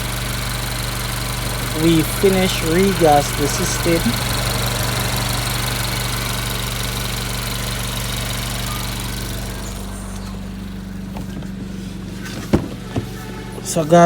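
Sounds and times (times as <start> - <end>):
air conditioning compressor whir: 0.0 - 14.0
car engine idling: 0.0 - 14.0.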